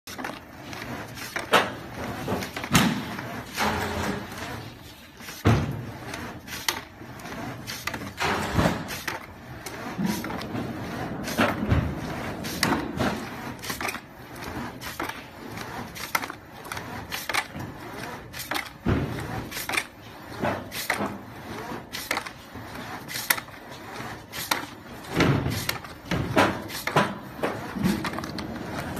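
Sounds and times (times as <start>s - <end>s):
gluing machine running: 0.1s - 28.9s.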